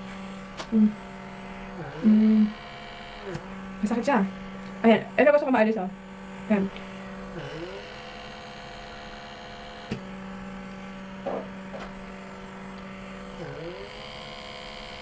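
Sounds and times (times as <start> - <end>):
small electric motor humming: 0.0 - 15.0.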